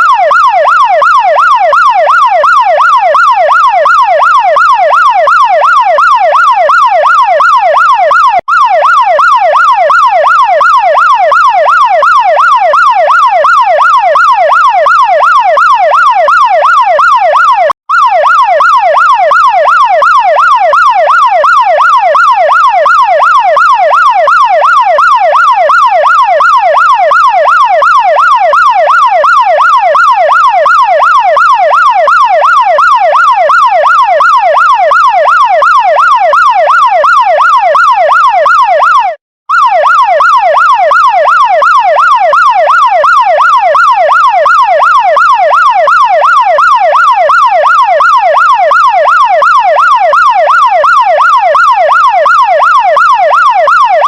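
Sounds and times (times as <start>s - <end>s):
electronic fire truck siren wailing: 0.0s - 54.0s.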